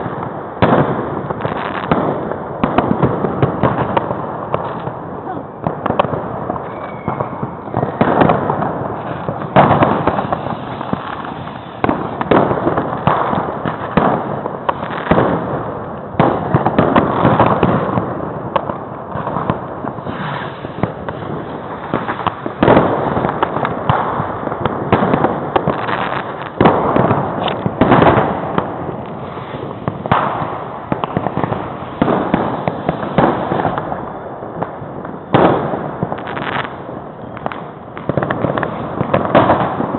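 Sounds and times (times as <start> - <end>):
firecrackers crackling: 0.0 - 39.9
fireworks banging: 0.0 - 39.9.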